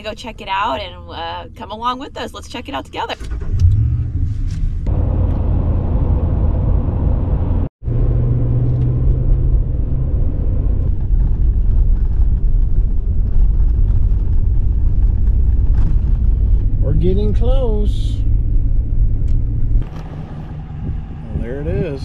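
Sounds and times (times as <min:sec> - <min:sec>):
truck engine and tyre rumble: 0:00.0 - 0:22.0.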